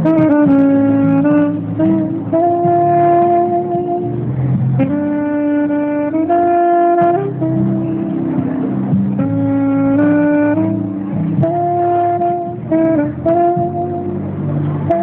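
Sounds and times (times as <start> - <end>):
lower accompaniment: 0.0 - 15.0
saxophone slow melody: 0.0 - 15.0.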